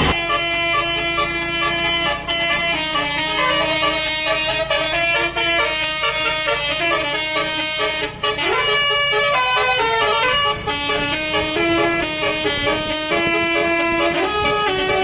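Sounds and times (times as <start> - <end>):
multi-tone air horn playing a tune: 0.0 - 15.0.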